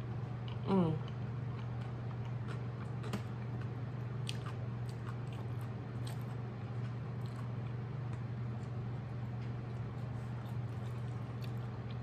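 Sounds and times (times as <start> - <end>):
person chewing: 0.2 - 12.0.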